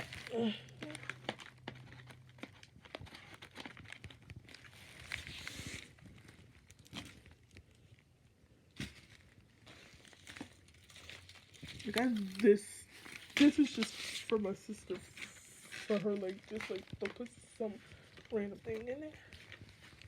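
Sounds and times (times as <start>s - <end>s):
paper and plastic rustling: 0.0s - 8.1s, 8.7s - 20.0s.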